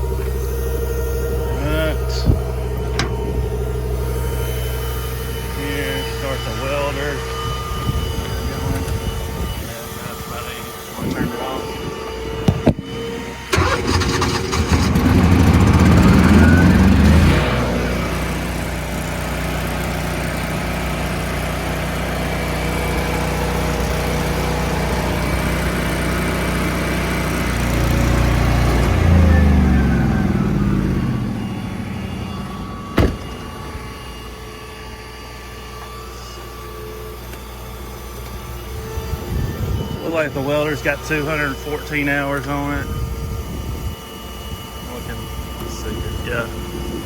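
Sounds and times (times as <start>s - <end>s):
welder engine running and surging: 0.0s - 47.0s.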